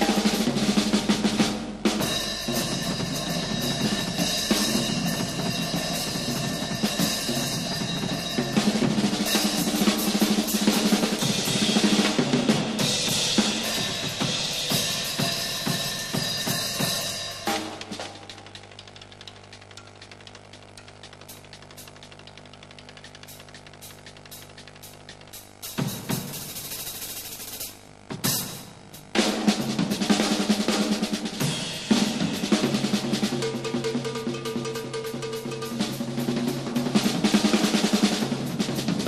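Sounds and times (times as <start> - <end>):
jazz drum solo: 0.0 - 39.0.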